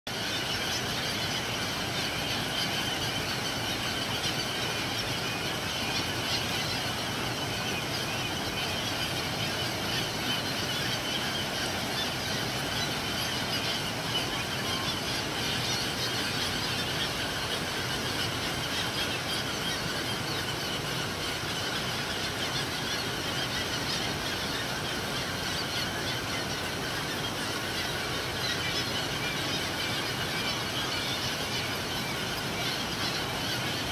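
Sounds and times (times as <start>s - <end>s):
gulls calling: 0.1s - 33.9s.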